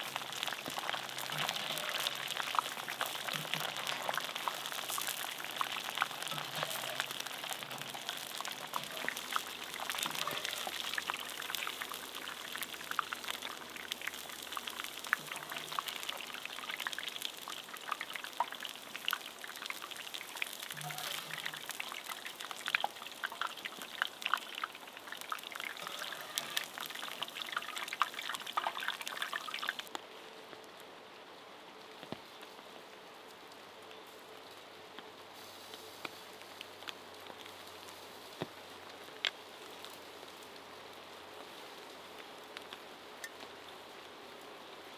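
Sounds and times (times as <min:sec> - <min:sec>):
fries sizzling in hot oil: 0:00.0 - 0:30.0, 0:35.3 - 0:44.9.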